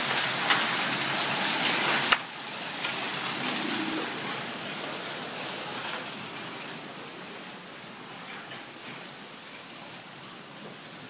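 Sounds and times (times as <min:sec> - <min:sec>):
hail and rain falling: 0:00.0 - 0:11.0.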